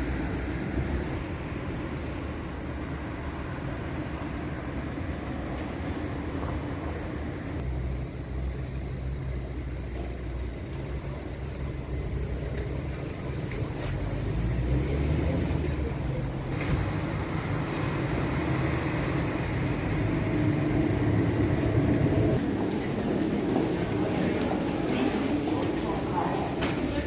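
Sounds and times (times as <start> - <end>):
train rumbling on rails: 0.0 - 27.0.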